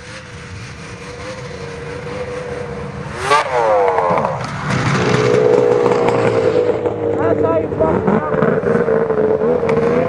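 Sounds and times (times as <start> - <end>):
snowmobile engine revving: 0.0 - 10.0
snowmobile engines running: 0.0 - 10.0.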